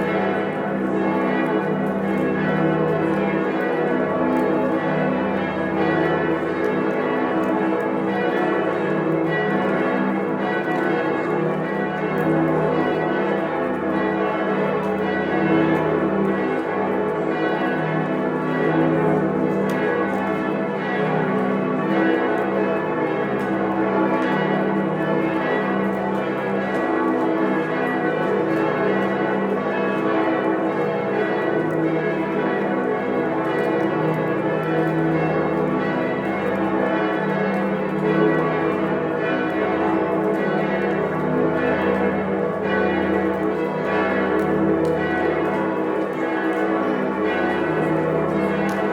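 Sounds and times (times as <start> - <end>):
church bells ringing: 0.0 - 48.9.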